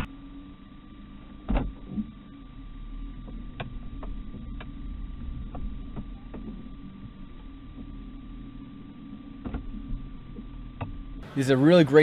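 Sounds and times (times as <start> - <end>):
engine and road hum: 0.0 - 12.0.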